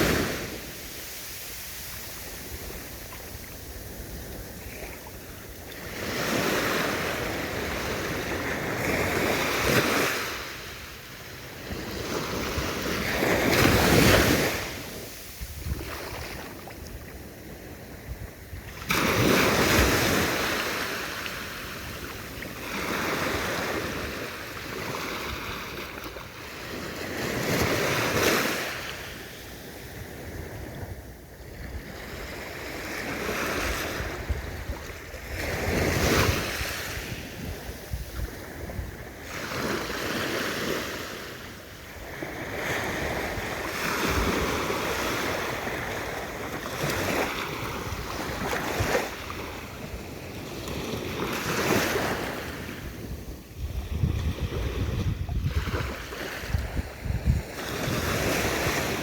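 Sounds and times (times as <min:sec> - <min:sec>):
sea waves breaking: 0:00.0 - 0:18.0, 0:18.7 - 0:30.8, 0:31.8 - 0:59.0.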